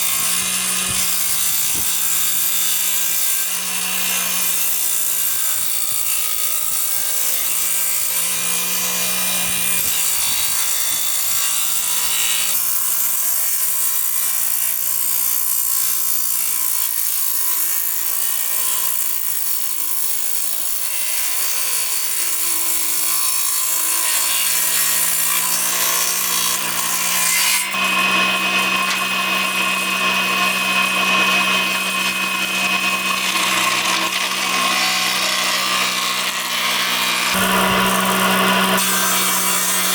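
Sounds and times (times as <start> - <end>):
power tool motor hum: 0.0 - 39.9
rasping sawing on wood: 0.0 - 39.9.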